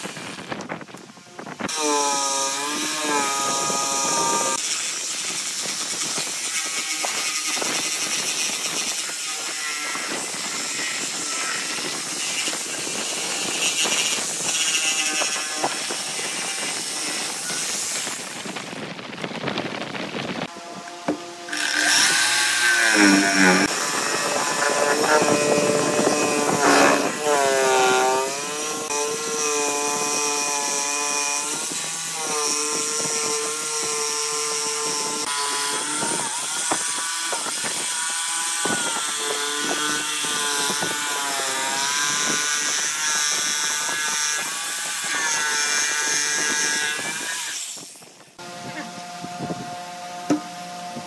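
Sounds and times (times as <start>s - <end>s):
electric jigsaw cutting wood: 1.7s - 18.9s, 20.4s - 51.0s.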